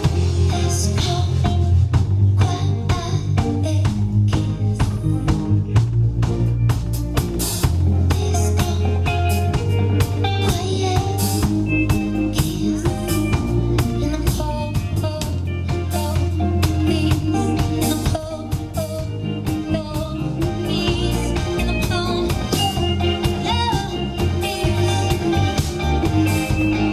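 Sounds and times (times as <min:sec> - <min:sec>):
electric bass: 0:00.0 - 0:26.9
guitar: 0:00.0 - 0:26.9
steady drum beat: 0:00.0 - 0:26.9
woman singing: 0:00.4 - 0:05.6, 0:07.9 - 0:09.6, 0:10.2 - 0:26.6.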